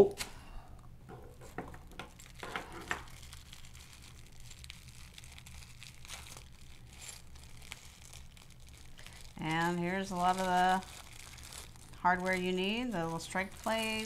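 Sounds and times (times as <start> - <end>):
packaging bag crinkling: 1.4 - 14.0.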